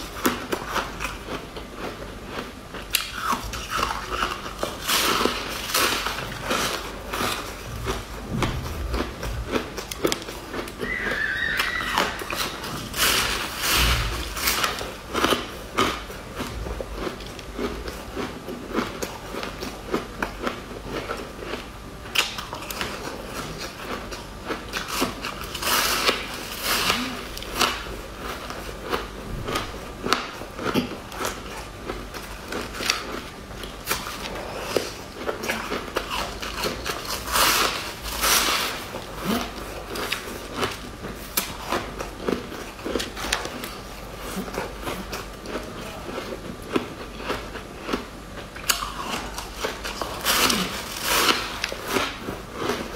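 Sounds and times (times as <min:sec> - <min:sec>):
ice crunching as it is chewed: 0:00.0 - 0:52.9.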